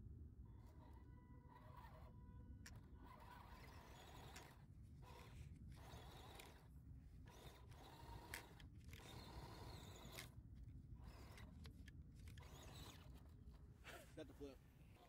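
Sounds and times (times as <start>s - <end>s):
small electric motor whine: 0.2s - 15.0s.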